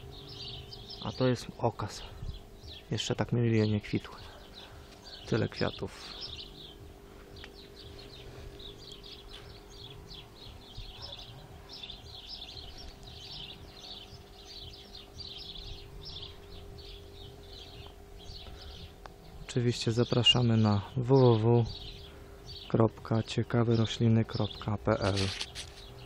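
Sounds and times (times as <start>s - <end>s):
low steady hum: 0.0s - 26.0s
small birds chirping: 0.0s - 26.0s.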